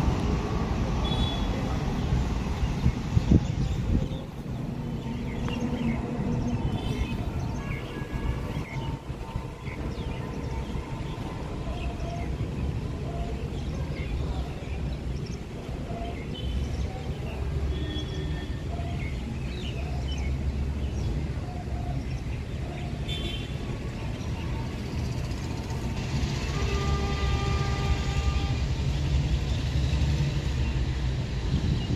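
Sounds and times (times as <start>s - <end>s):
train rumbling on track: 0.0s - 31.9s
birds chirping: 1.0s - 27.0s.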